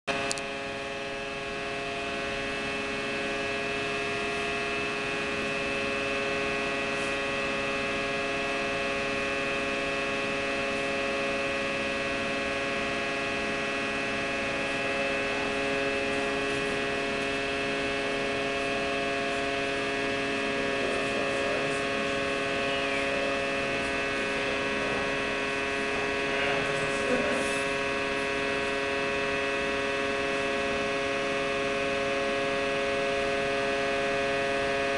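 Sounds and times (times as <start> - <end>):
held machine tones: 0.1 - 34.9
machine electric hum: 0.1 - 34.9.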